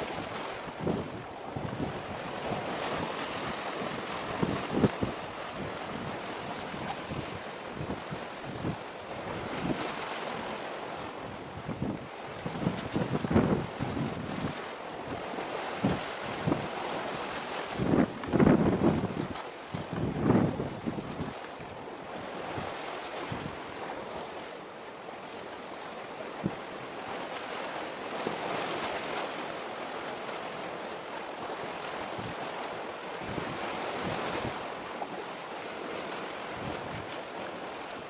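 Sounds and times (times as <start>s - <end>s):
wind buffeting microphone: 0.0s - 24.5s, 26.3s - 38.0s
choppy sea water: 0.0s - 38.0s.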